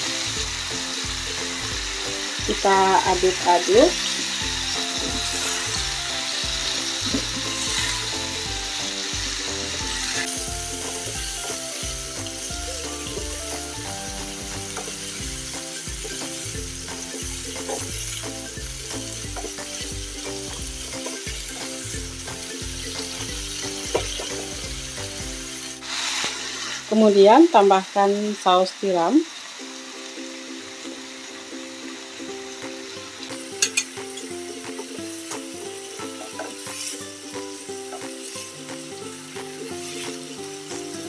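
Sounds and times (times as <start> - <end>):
vegetables sizzling in frying pan: 0.0 - 41.0.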